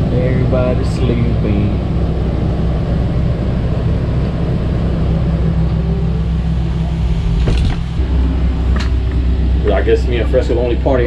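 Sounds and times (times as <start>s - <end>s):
generator droning: 0.0s - 11.0s.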